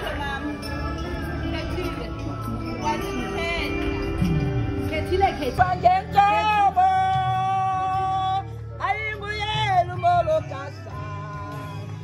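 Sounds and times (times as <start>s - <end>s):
backing music: 0.0s - 12.0s.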